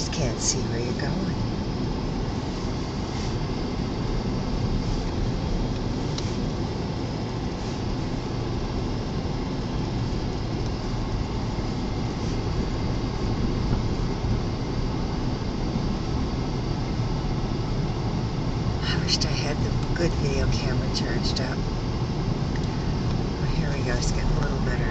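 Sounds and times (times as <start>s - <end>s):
car cabin low rumble: 0.0s - 24.9s.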